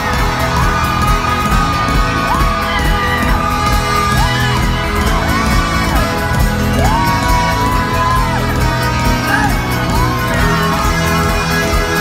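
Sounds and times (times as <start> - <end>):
crowd cheering and whooping: 0.0 - 12.0
live folk-rock band playing: 0.0 - 12.0.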